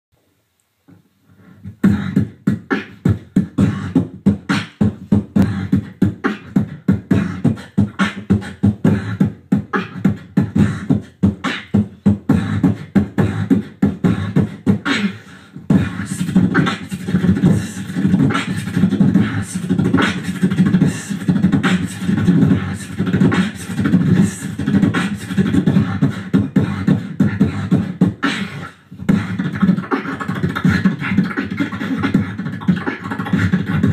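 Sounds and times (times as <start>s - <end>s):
person beatboxing: 0.9s - 33.9s
second person beatboxing: 0.9s - 33.9s.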